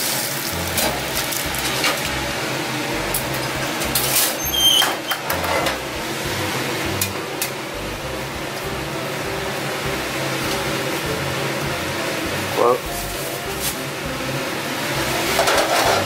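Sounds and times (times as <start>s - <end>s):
kitchen ventilation hum: 0.0s - 16.0s.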